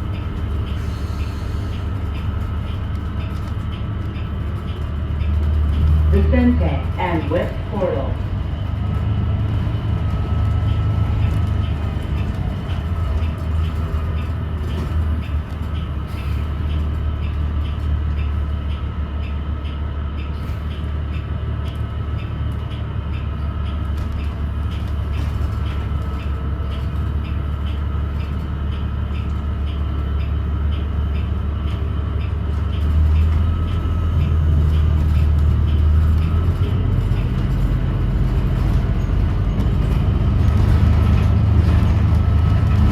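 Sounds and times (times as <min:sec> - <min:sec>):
bus interior rumble: 0:00.0 - 0:42.9.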